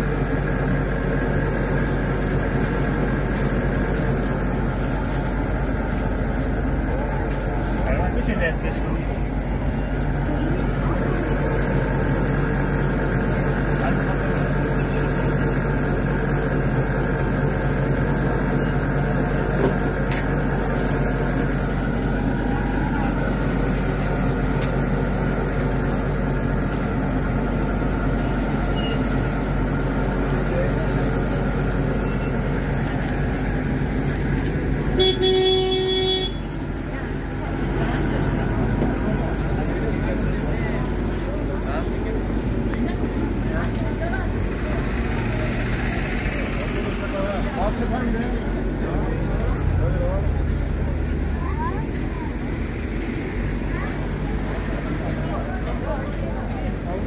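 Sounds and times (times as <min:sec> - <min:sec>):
burger patties sizzling on grill: 0:00.0 - 0:57.0
mechanical drone with low hum: 0:00.0 - 0:57.0.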